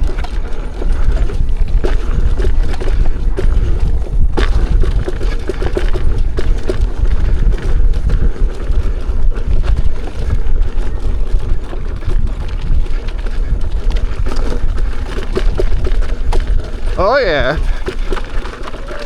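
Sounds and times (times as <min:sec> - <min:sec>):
knocks and rattles from bumps: 0:00.0 - 0:19.0
wind buffeting microphone: 0:00.0 - 0:19.0.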